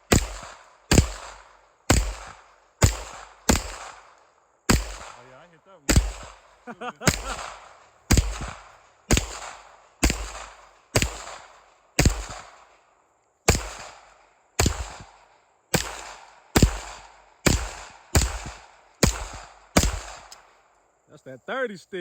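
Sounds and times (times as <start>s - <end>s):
gunshots cracking: 0.1s - 12.7s, 13.5s - 20.4s.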